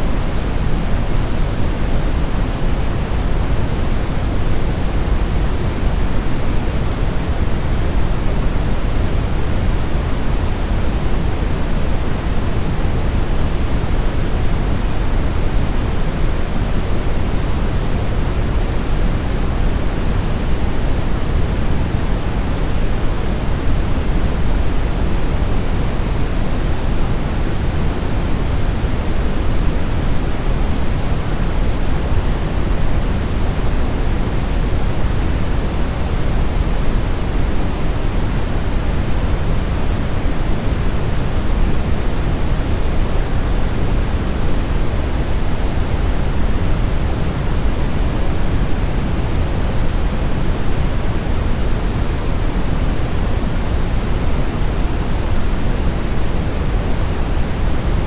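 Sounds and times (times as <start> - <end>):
brown noise hiss-rumble: 0.0 - 58.0.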